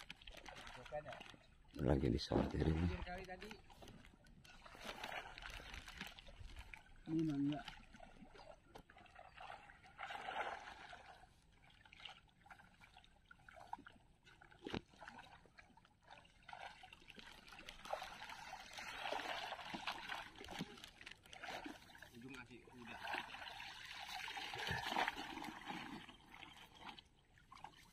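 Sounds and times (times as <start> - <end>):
water splashing and sloshing: 0.0 - 27.9.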